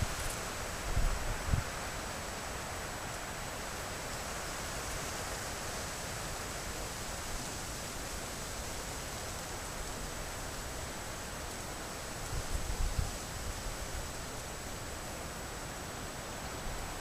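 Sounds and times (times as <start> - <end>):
steady microphone hiss: 0.0 - 17.0.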